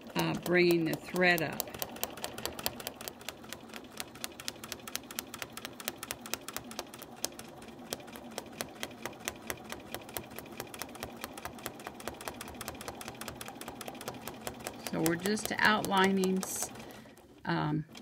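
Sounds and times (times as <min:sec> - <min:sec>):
sewing machine motor hum: 0:00.0 - 0:18.0
sewing machine needle ticks: 0:00.0 - 0:18.0.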